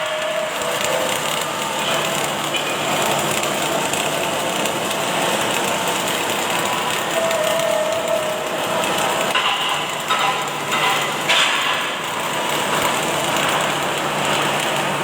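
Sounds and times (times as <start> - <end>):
arc-welding machine: 0.0 - 15.0.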